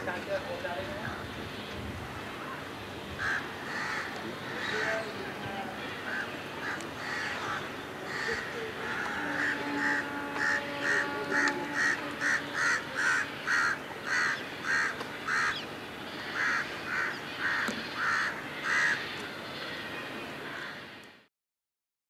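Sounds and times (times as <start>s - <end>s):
bird calling: 2.4s - 20.9s.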